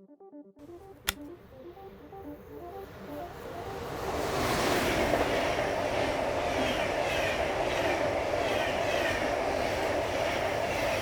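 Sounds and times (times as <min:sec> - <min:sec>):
train running on rails: 0:00.7 - 0:11.0.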